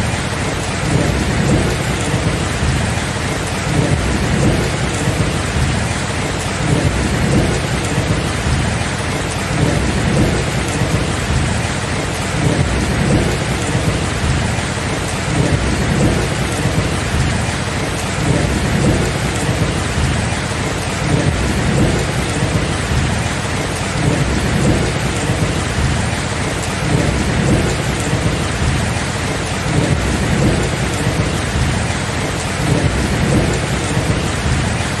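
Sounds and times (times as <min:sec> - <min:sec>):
steady rain: 0:00.0 - 0:35.0
low thunder rumbling: 0:00.1 - 0:35.0.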